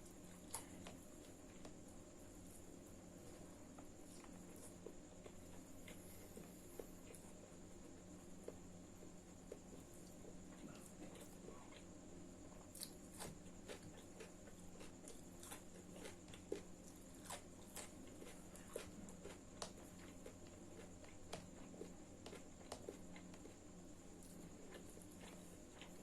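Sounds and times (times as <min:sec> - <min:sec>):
chewing food: 0:00.0 - 0:26.0.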